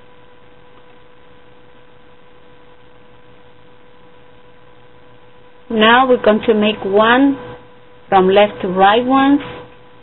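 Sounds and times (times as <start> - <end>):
constant hiss: 0.0 - 10.0
electrical hum: 0.0 - 10.0.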